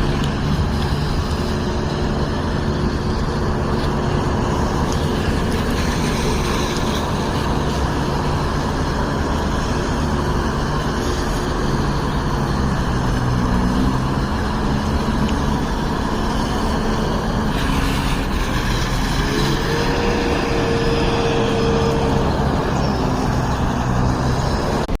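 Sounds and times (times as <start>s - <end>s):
vacuum truck engine and suction: 0.0s - 25.0s.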